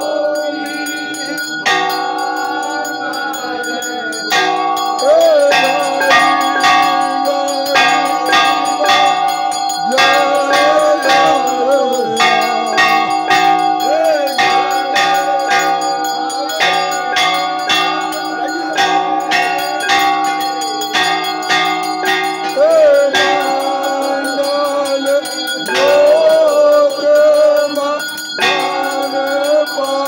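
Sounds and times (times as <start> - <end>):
bells struck in rhythm: 0.0 - 30.0.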